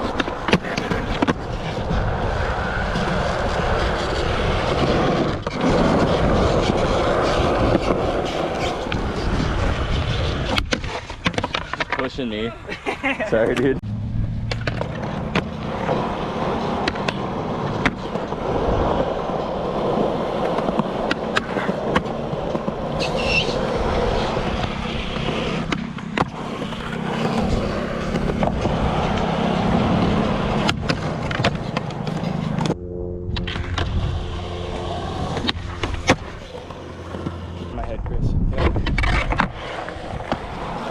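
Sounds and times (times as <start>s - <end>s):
skateboard clacking on ground: 0.0s - 12.5s, 14.5s - 32.8s, 34.9s - 37.7s, 38.6s - 40.9s
skateboard wheels rolling on concrete: 0.0s - 32.8s, 33.4s - 40.9s.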